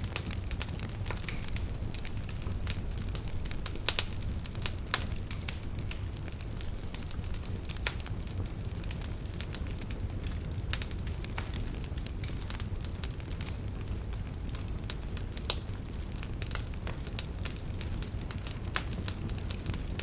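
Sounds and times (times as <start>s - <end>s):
campfire crackling and popping: 0.0s - 20.0s
low rumble of flame: 0.0s - 20.0s.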